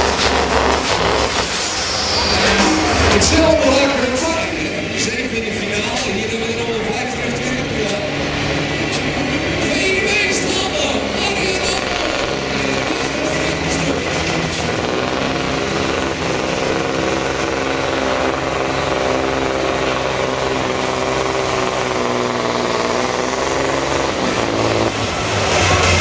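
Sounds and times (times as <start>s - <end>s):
truck diesel engine running flat out: 0.0s - 26.0s.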